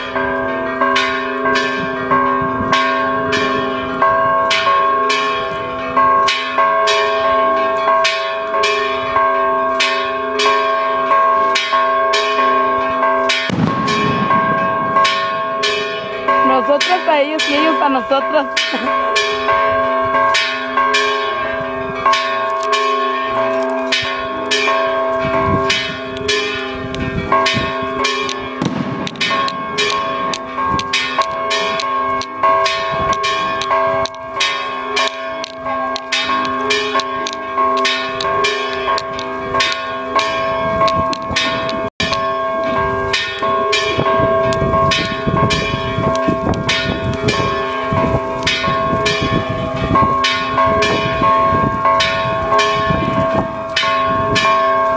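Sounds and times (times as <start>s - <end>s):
church bells pealing: 0.0s - 54.9s.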